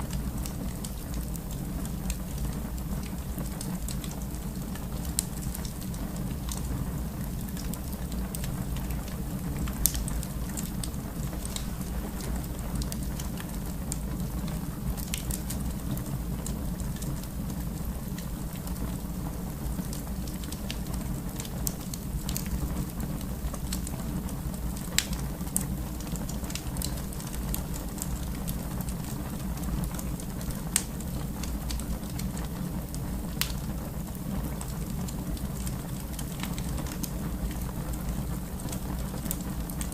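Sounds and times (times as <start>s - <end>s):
fire burning low rumble: 0.0s - 39.9s
fire crackling and popping: 0.0s - 39.9s.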